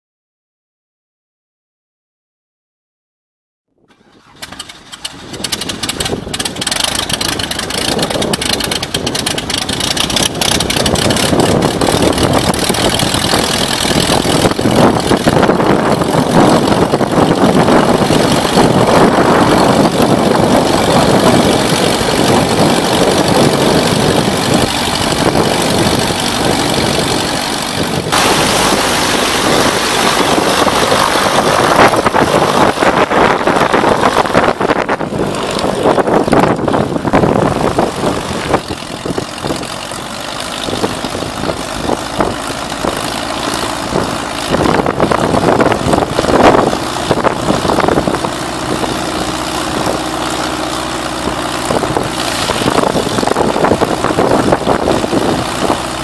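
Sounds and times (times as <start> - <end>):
propeller plane engine running: 3.9 - 56.0.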